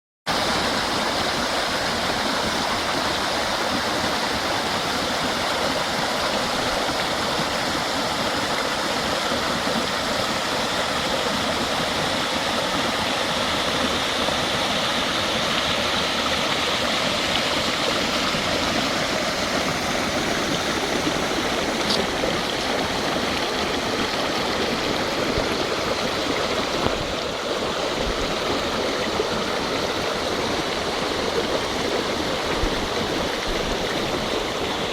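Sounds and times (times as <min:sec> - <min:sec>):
water rushing from outfall: 0:00.3 - 0:34.9.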